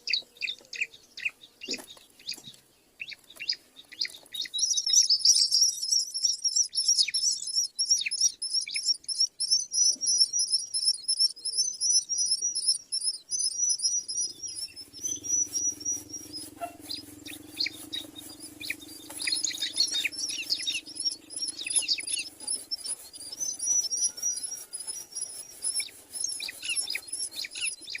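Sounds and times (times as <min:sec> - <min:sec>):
myna birds chirping: 0:00.0 - 0:28.0.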